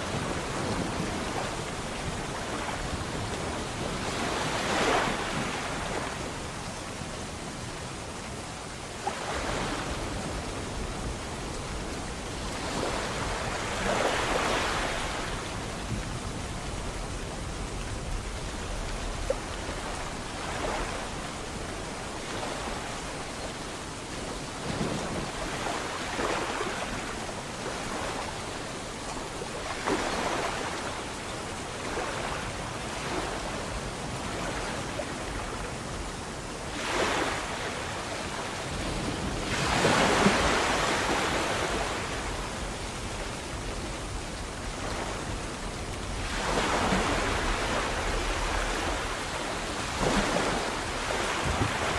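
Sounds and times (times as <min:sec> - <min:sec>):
sea waves breaking: 0:00.0 - 0:51.9.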